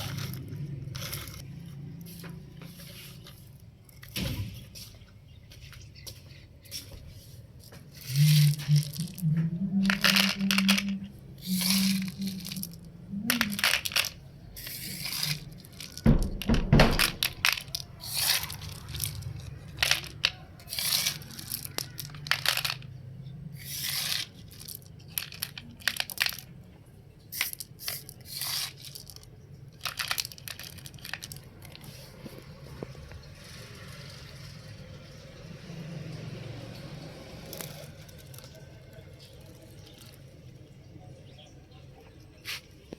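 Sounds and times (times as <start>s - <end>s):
gravel crunching and rattling: 0.0s - 34.4s, 36.5s - 41.4s.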